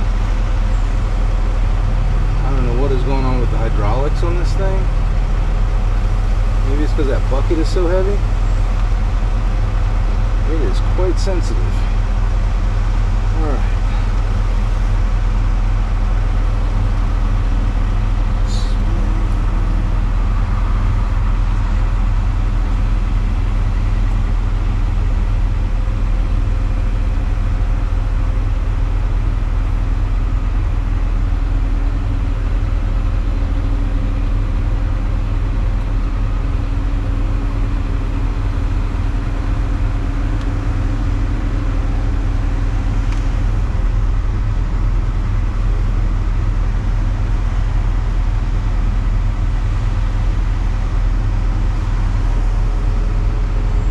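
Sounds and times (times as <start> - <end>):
excavator diesel engine running: 0.0 - 53.9
faint steady whine: 0.0 - 53.9.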